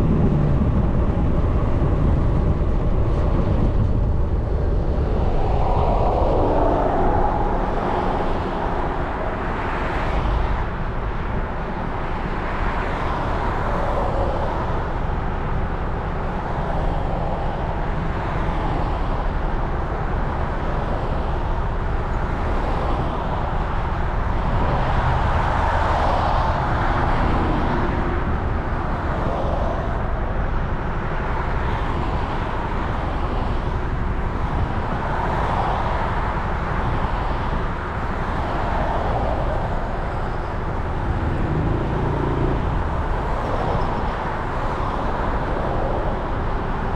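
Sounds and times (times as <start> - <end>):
passing traffic: 0.0 - 46.9
wind and road noise: 0.0 - 46.9.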